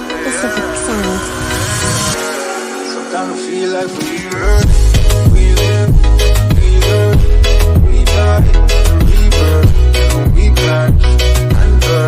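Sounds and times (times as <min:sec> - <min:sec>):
electronic remix music: 0:00.0 - 0:12.0.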